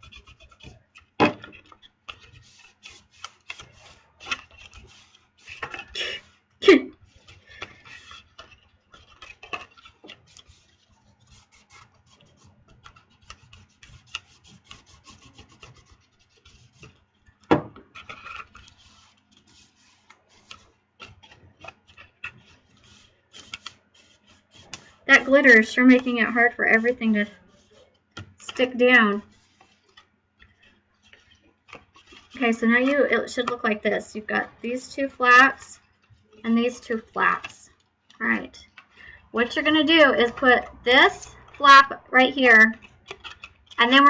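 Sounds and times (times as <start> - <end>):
cardstock rustling and scraping: 0.0 - 44.0.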